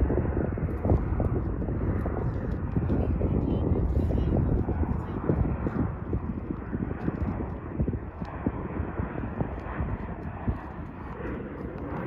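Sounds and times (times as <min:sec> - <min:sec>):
jet engines rushing: 0:00.0 - 0:12.0
wind buffeting microphone: 0:00.0 - 0:12.0.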